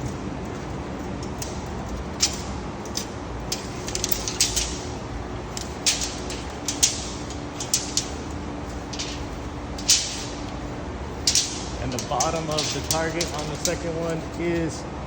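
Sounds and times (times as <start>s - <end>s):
sharp clicks and crunches: 0.0s - 14.7s
background hiss: 0.0s - 15.0s.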